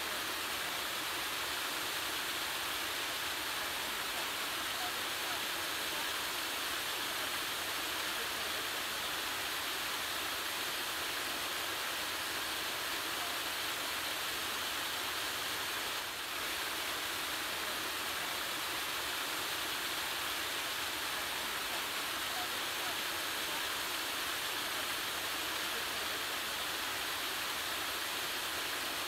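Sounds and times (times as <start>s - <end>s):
creek water rushing: 0.0s - 29.0s.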